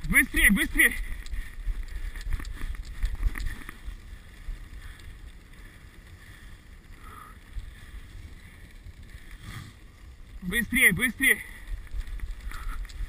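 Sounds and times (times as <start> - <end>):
sled runners on snow: 0.0 - 13.0.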